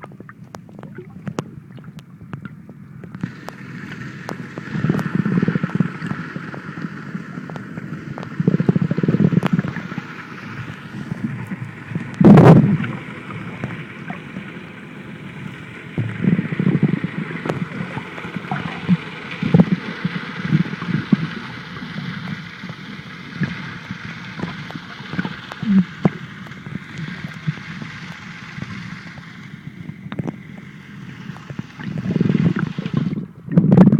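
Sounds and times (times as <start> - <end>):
muffled underwater gurgling: 0.0 - 33.9
rush of water: 0.0 - 33.9.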